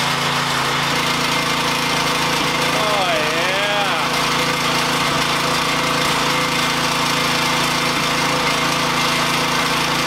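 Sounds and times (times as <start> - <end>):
pressure washer spraying into bucket: 0.0 - 10.0.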